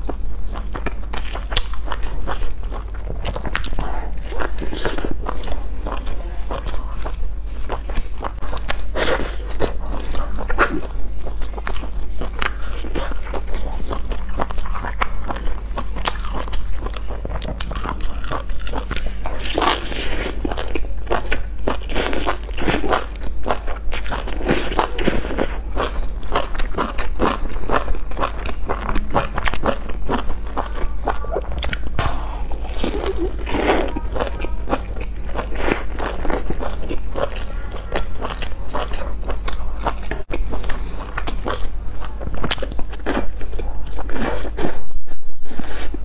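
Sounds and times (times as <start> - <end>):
crunching and chewing food: 0.0 - 46.0.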